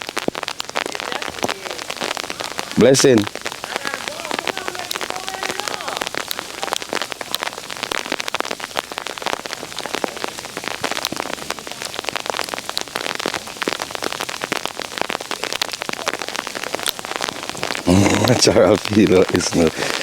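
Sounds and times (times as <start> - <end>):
rain pattering: 0.0 - 20.0.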